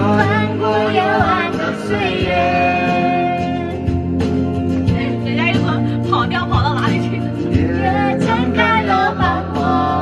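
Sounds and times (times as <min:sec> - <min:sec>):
person singing karaoke: 0:00.0 - 0:10.0
pop backing track: 0:00.0 - 0:10.0.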